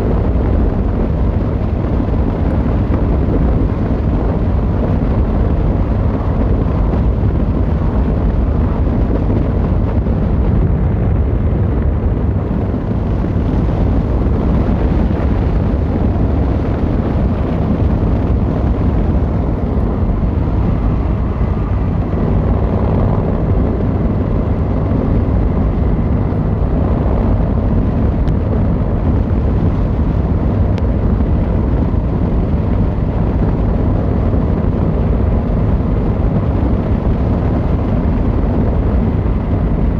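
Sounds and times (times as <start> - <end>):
motorcycle engine rumbling: 0.0 - 39.9
wind buffeting microphone: 0.0 - 39.9.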